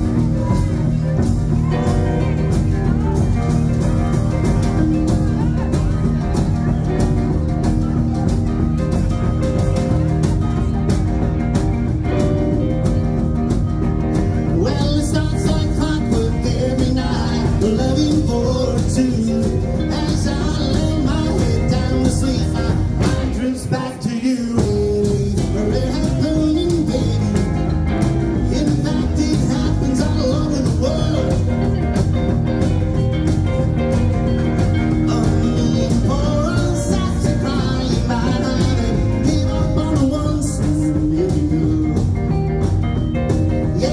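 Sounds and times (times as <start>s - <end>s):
rock and roll band playing: 0.0s - 43.9s.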